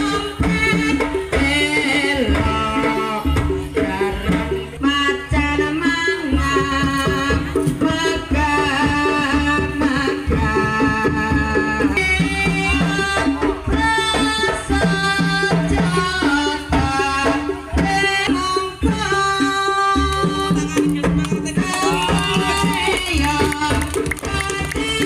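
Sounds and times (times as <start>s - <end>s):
hand drums beating: 0.0s - 25.0s.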